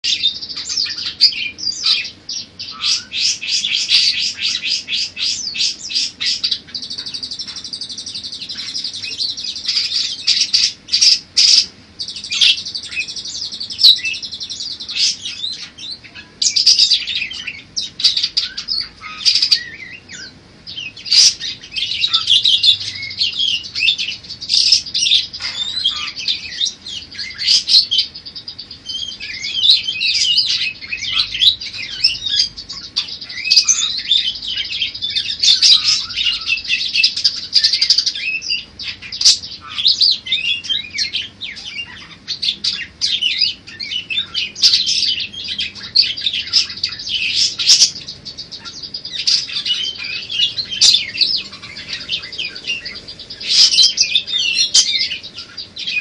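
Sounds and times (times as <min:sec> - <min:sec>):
parakeets chattering and chirping: 0:00.0 - 0:56.0.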